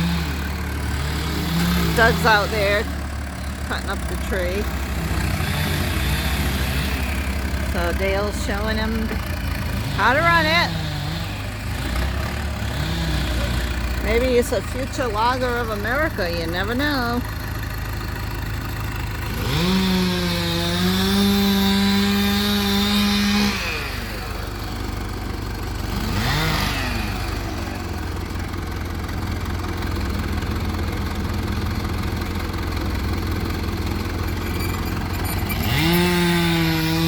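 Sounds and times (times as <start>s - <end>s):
chainsaw cutting wood: 0.0s - 37.0s
diesel engine idling: 0.0s - 37.0s.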